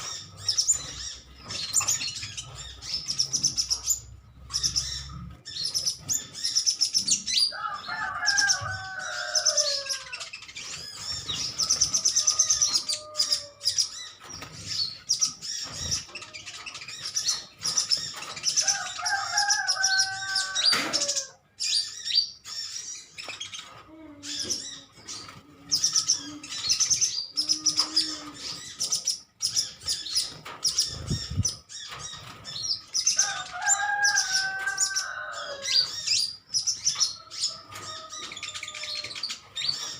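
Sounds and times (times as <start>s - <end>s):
birds twittering chirps: 0.0s - 39.9s.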